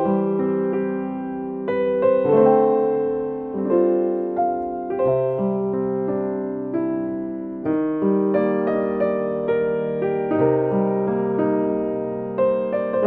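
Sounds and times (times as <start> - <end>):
slow soft piano music: 0.0 - 13.0.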